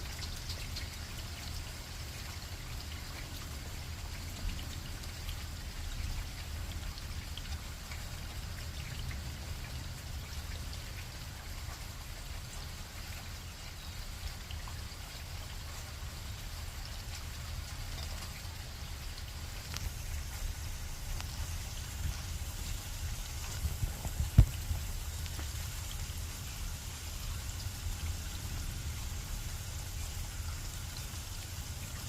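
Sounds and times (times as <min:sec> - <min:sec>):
light rain patter: 0:00.0 - 0:32.0
raindrops ticking: 0:00.0 - 0:32.0.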